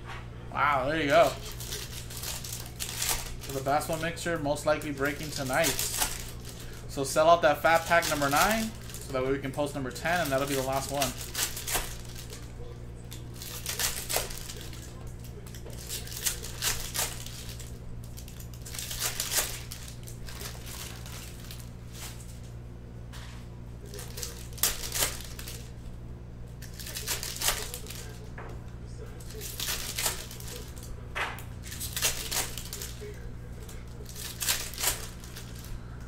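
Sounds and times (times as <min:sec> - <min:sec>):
steady low hum: 0:00.0 - 0:36.0
card pack wrappers crinkling: 0:00.6 - 0:22.5, 0:23.8 - 0:25.9, 0:26.6 - 0:28.3, 0:29.0 - 0:31.0, 0:31.6 - 0:36.0.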